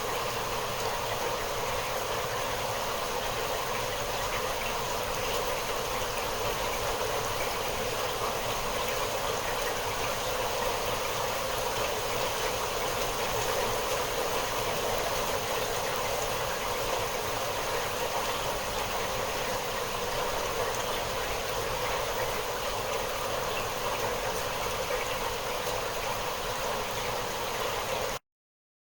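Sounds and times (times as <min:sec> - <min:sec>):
steady rain falling: 0:00.0 - 0:28.2.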